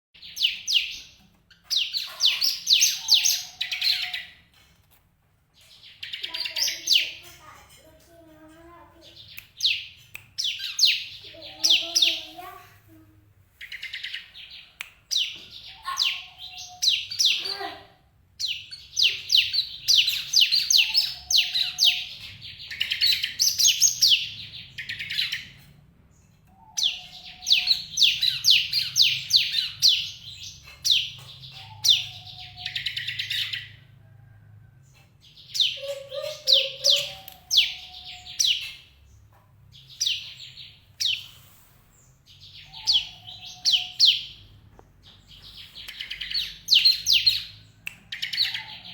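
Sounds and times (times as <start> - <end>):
bird high sharp chirps: 0.2 - 4.6, 5.6 - 7.6, 9.0 - 12.6, 13.6 - 17.8, 18.4 - 25.7, 26.5 - 33.8, 35.4 - 39.1, 39.7 - 48.9.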